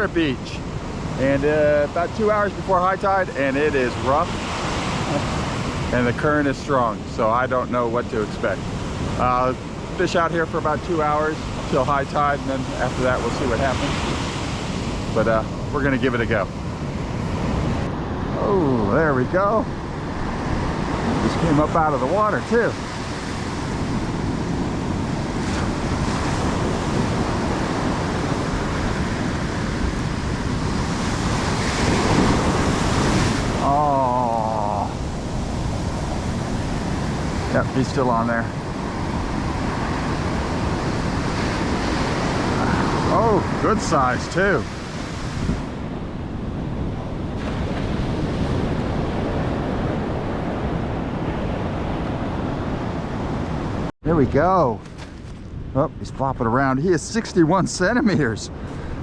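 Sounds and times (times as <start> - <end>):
surf breaking on beach: 0.0 - 55.7
wind buffeting microphone: 0.0 - 59.0.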